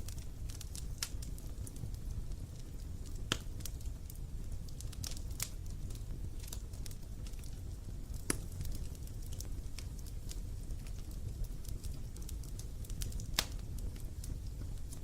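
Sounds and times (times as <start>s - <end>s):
bonfire crackling and snapping: 0.0s - 15.0s.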